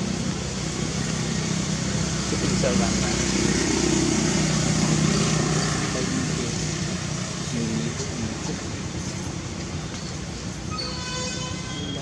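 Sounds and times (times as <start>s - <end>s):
motorbike engine and road noise: 0.0s - 12.0s.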